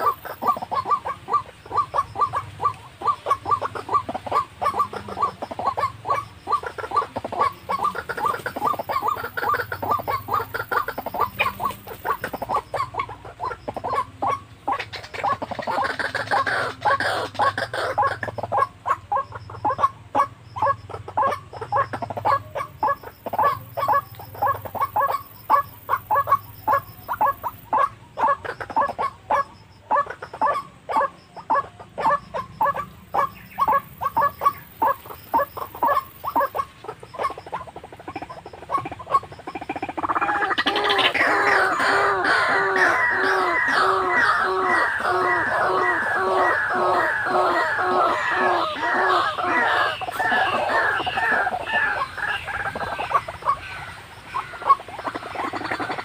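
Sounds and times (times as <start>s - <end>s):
bird clucking calls: 0.0s - 56.0s
loud repeated bird call: 0.0s - 56.0s.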